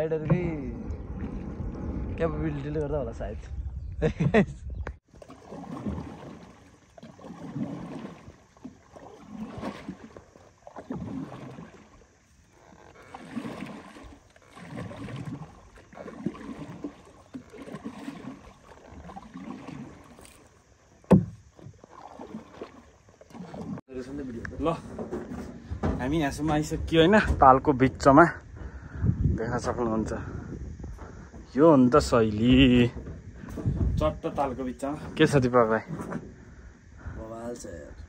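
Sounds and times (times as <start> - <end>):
oars splashing through water: 0.0 - 3.0, 5.0 - 28.2, 30.7 - 36.9.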